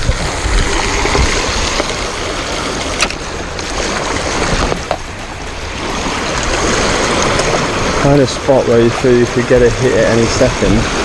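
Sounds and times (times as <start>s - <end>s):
sea water sloshing on rocks: 0.0s - 11.0s
wind noise on microphone: 0.0s - 11.0s.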